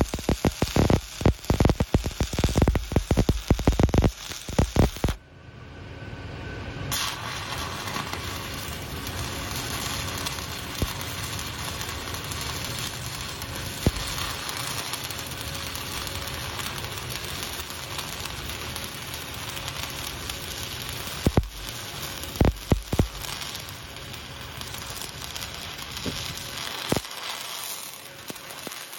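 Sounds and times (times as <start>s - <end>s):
sharp welding pops: 0.0s - 5.2s, 6.9s - 28.9s
welding arc hissing: 0.0s - 5.2s, 6.9s - 28.9s.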